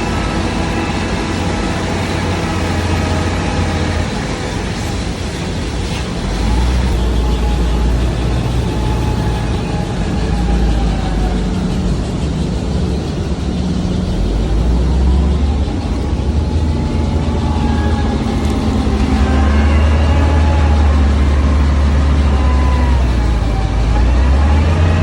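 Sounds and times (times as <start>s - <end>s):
faint wavering whine: 0.0s - 25.0s
heavy machinery low rumble: 0.0s - 25.0s.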